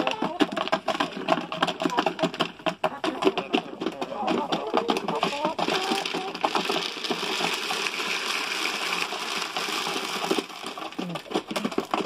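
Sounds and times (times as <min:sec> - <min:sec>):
chicken feed pouring into feeder: 0:00.0 - 0:12.0.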